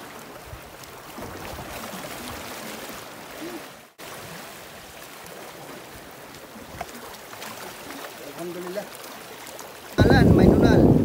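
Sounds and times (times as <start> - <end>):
sea water washing on shore: 0.0 - 11.0.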